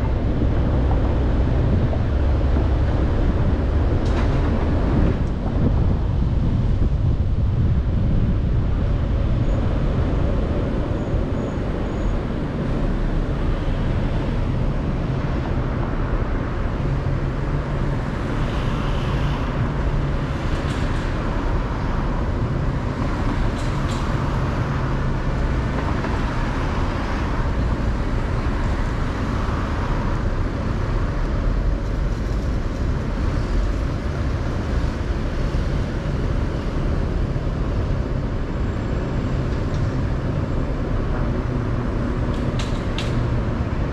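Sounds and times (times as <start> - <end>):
street traffic rumble: 0.0 - 43.9.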